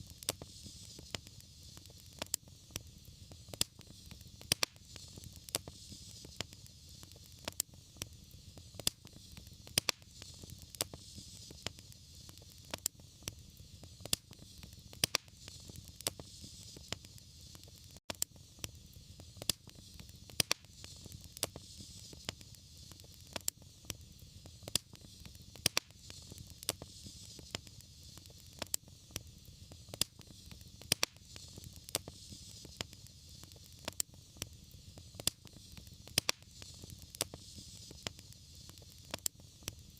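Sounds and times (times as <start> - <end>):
fire popping and snapping: 0.0 - 39.9
low rumble and hiss of burning: 0.0 - 39.9
wood fire crackling: 0.0 - 39.9.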